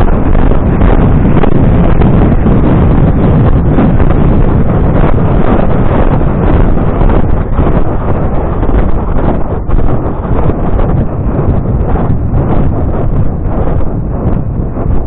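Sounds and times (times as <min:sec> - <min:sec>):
wind buffeting on microphone: 0:00.0 - 0:15.0.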